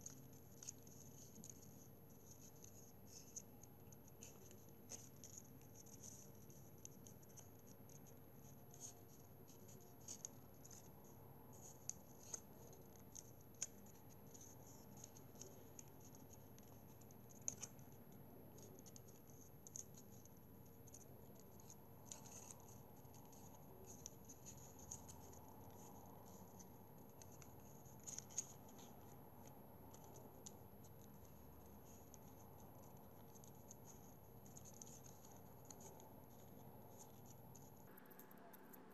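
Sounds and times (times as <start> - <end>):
paper crinkling and rustling: 0.0 - 37.9
crisp paper ticks: 0.0 - 38.8.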